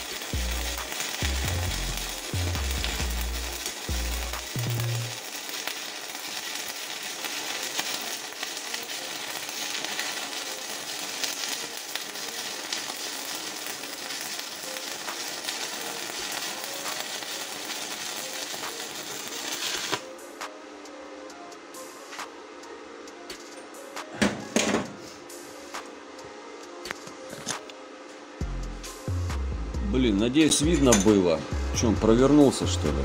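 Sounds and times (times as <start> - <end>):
welding arc crackling sizzle: 0.0 - 24.2, 25.1 - 27.8, 28.4 - 33.0.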